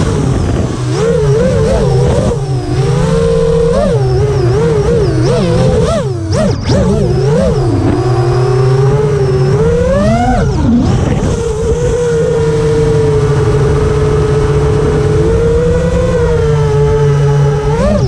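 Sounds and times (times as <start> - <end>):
quadcopter propellers whining: 0.0 - 18.0.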